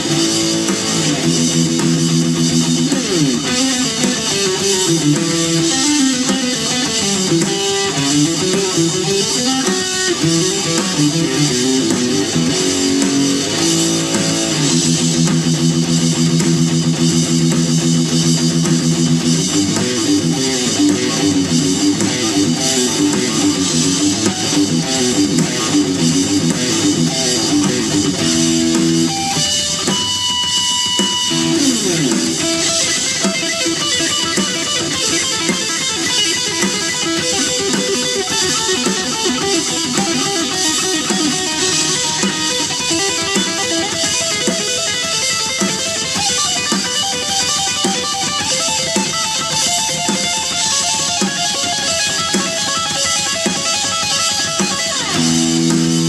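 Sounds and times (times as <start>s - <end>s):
electric guitar rock playing: 0.0s - 56.0s.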